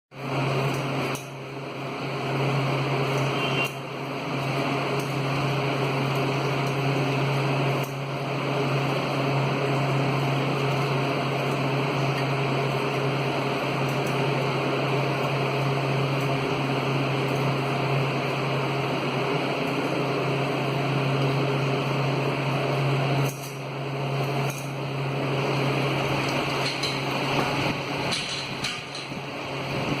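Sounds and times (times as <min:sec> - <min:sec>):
fan humming and whirring: 0:00.1 - 0:30.0.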